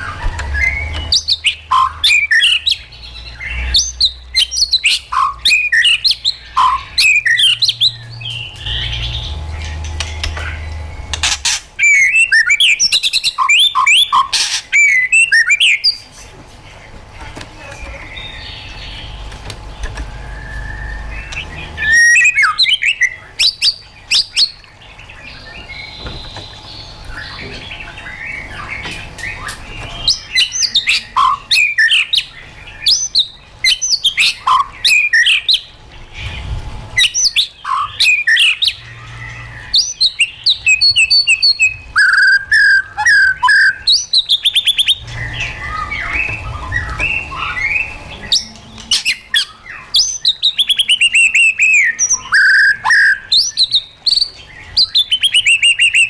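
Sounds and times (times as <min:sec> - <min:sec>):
bird singing whistled phrases: 0:00.0 - 0:09.3, 0:11.8 - 0:16.0, 0:20.2 - 0:24.6, 0:25.2 - 0:35.7, 0:37.0 - 0:56.0.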